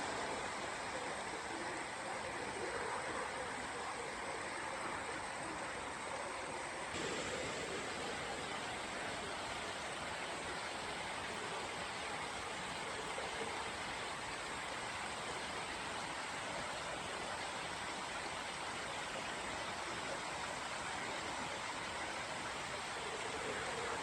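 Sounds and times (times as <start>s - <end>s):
water flowing: 0.0s - 24.0s.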